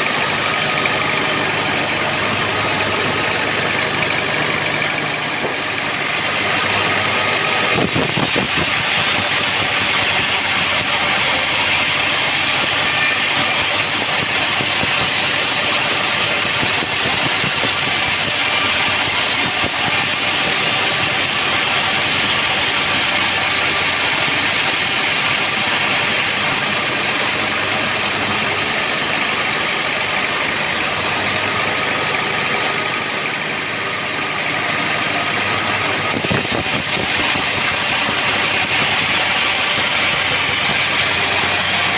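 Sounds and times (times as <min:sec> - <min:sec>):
band saw cutting a log: 0:00.0 - 0:41.9.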